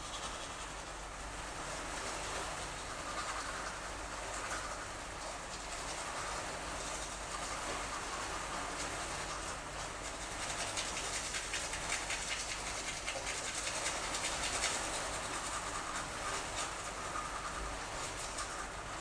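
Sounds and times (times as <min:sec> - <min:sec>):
rain pattering steadily: 0:00.0 - 0:19.0.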